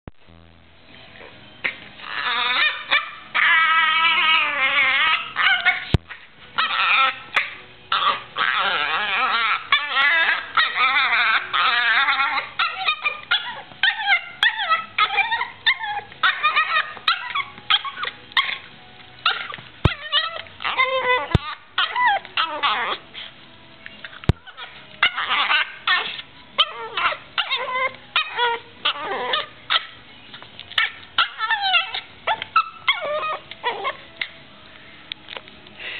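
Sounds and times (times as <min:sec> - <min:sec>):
small dog whining and yipping: 0:02.0 - 0:23.3, 0:24.0 - 0:34.4.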